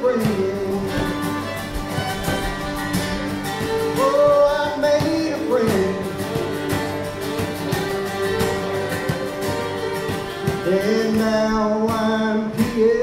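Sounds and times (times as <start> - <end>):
fiddle melody: 0.0 - 13.0
strummed acoustic guitars: 0.0 - 13.0.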